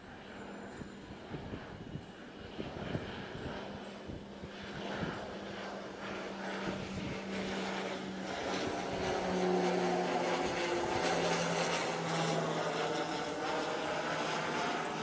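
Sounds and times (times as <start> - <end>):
propeller plane flying overhead: 0.0 - 15.0.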